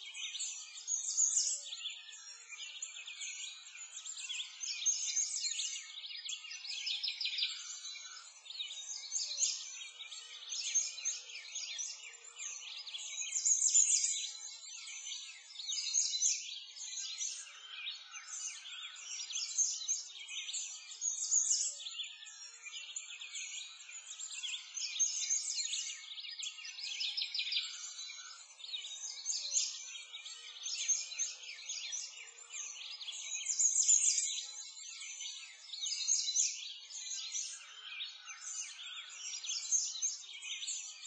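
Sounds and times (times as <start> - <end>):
songbirds chirping and singing: 0.0 - 41.0.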